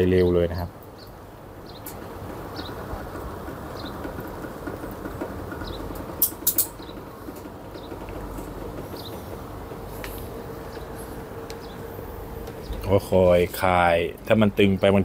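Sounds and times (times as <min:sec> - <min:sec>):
faint hum: 0:00.0 - 0:15.0
press machine rumbling: 0:00.7 - 0:15.0.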